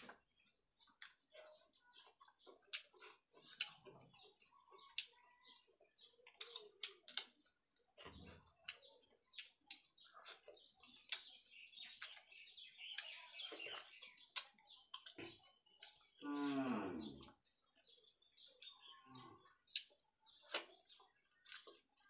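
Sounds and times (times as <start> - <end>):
chewing clicks: 0.0 - 12.3, 12.9 - 16.6, 17.2 - 22.0
birds chirping: 0.0 - 22.0.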